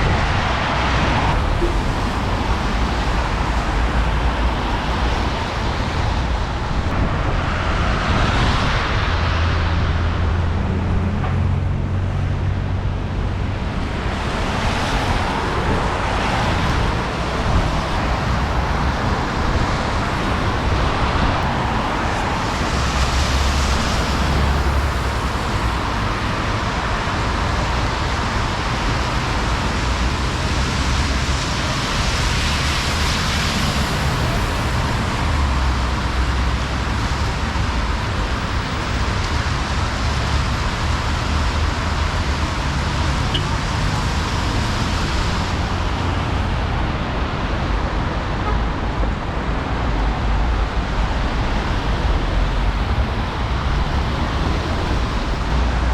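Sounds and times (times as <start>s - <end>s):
street traffic noise: 0.0s - 55.9s
vehicles passing: 0.0s - 55.9s.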